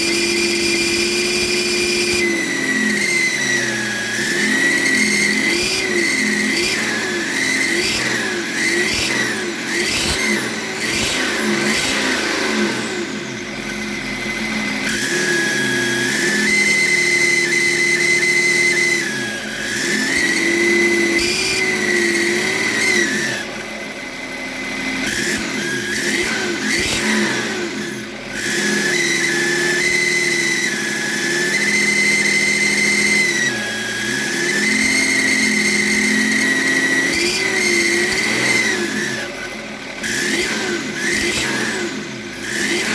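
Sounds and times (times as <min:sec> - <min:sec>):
diesel engine: 0:00.0 - 0:42.9
turbocharger whine: 0:00.0 - 0:42.9.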